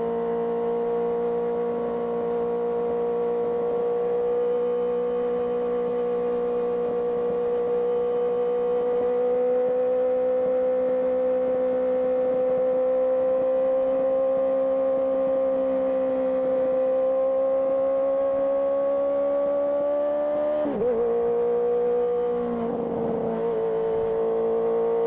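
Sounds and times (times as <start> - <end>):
motorcycle engine at steady revs: 0.0 - 25.0.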